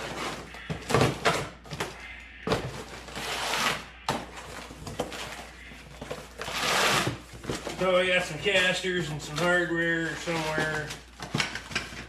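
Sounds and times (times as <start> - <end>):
rustling packaging: 0.0 - 12.0.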